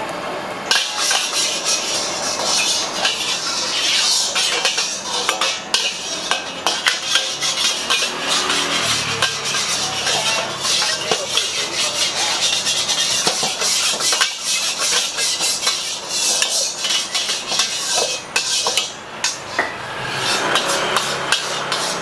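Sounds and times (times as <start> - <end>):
gas burner hissing: 0.0 - 22.0
spatula scraping a wok: 0.7 - 22.0.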